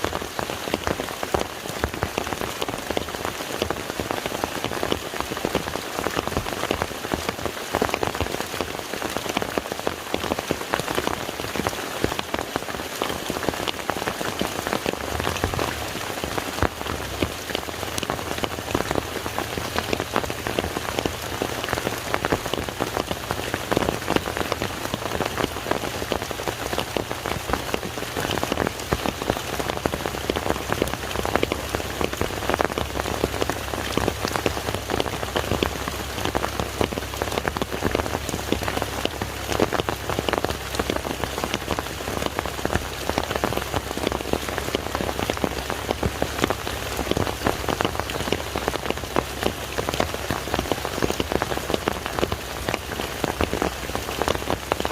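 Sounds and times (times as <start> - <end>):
rain falling on a lake: 0.0 - 54.9.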